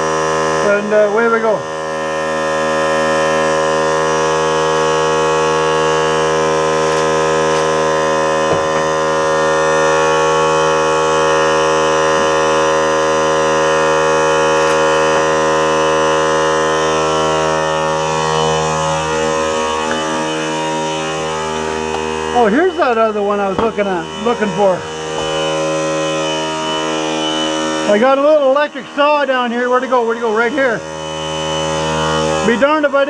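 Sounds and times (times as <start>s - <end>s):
air compressor droning: 0.0s - 33.0s.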